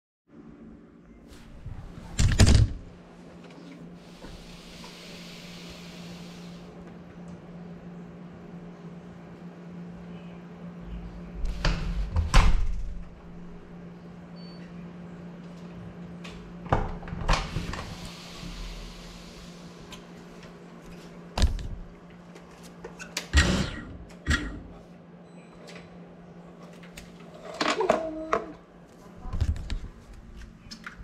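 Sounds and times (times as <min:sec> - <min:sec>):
steady low hum: 0:00.3 - 0:31.0.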